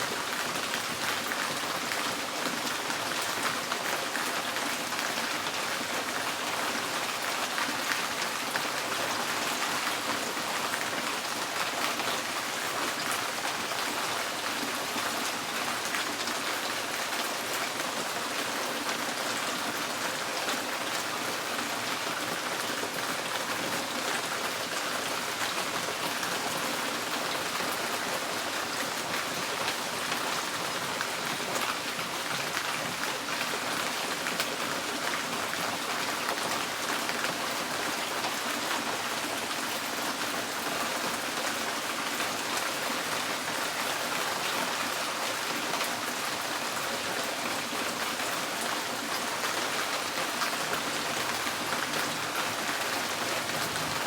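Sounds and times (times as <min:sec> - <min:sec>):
rain on a tin roof: 0:00.0 - 0:54.0.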